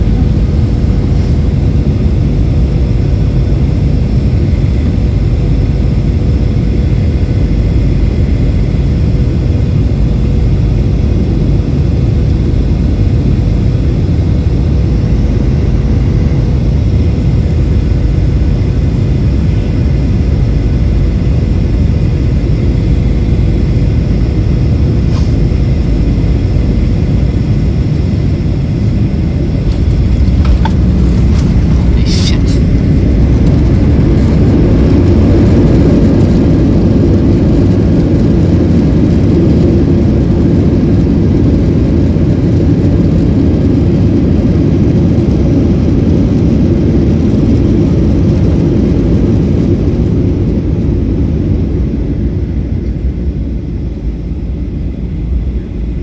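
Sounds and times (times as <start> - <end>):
airliner cabin engine rumble: 0.0 - 56.0
constant cabin hum: 0.0 - 56.0.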